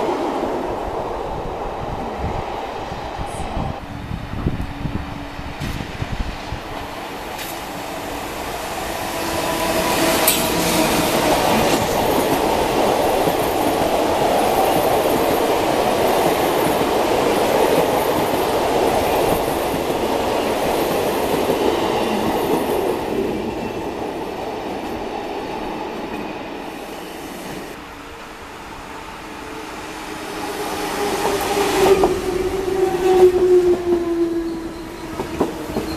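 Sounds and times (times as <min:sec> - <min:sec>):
electric train rolling on rails: 0:00.0 - 0:35.9.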